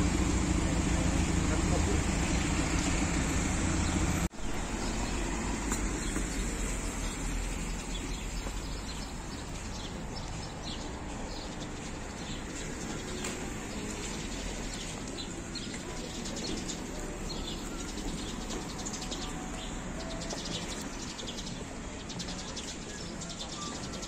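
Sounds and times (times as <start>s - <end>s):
steady traffic noise: 0.0s - 24.0s.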